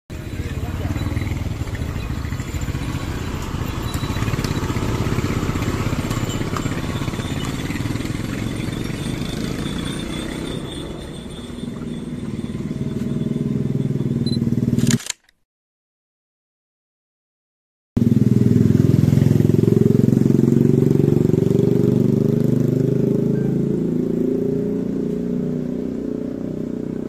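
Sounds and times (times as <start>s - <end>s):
motorcycle engines running: 0.1s - 15.0s, 18.0s - 27.0s.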